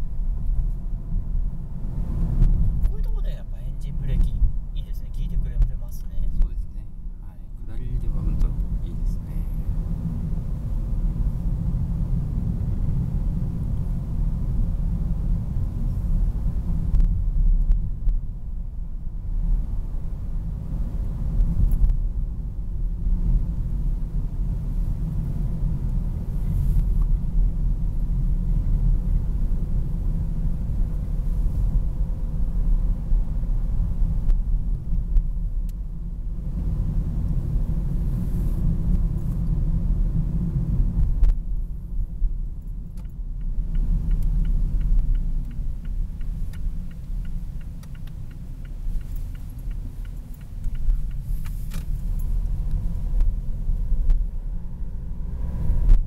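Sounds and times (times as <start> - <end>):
diesel engine rumble in car: 0.0 - 56.0.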